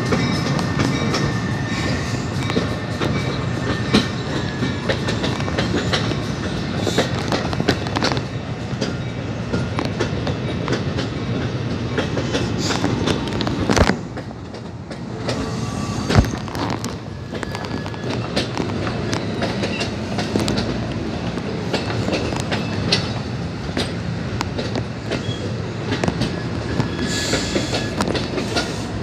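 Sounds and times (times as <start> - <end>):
wheels clicking over rail joints: 0.0 - 28.9
train coaches rumbling past: 0.0 - 29.0.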